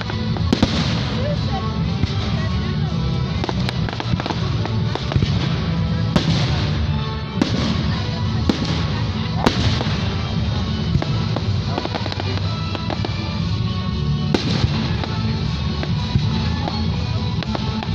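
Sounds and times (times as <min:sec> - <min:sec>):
sharp firework bangs: 0:00.0 - 0:02.4, 0:03.4 - 0:13.5, 0:14.3 - 0:17.9
fireworks crackling: 0:00.0 - 0:17.9.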